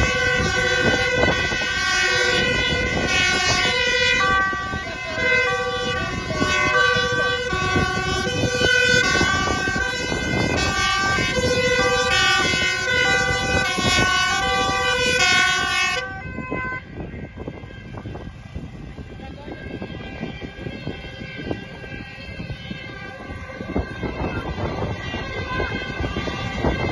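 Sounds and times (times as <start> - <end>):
two-tone emergency sirens: 0.0 - 26.9
vehicle engine noise: 0.0 - 26.9.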